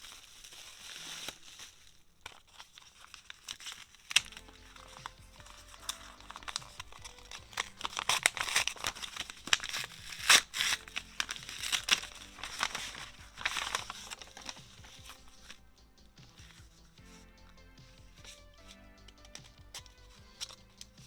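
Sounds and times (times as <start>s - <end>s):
paper and plastic crinkling and tearing: 0.0s - 21.0s
soft background music: 4.0s - 21.0s.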